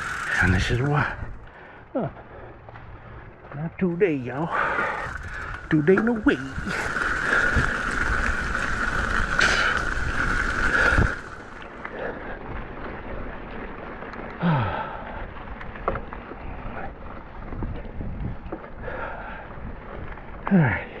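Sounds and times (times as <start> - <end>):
bike tyre and wind noise: 0.0 - 21.0.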